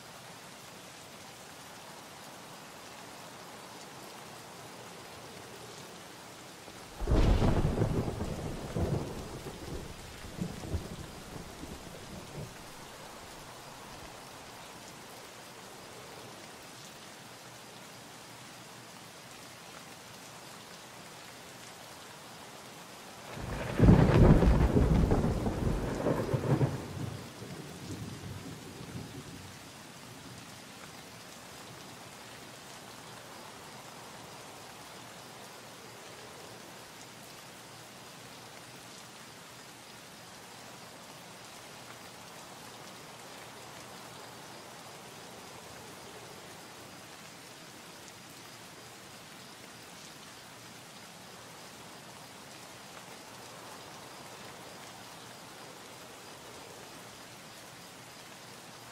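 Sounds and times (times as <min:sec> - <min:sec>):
steady faint hiss: 0:00.0 - 0:58.9.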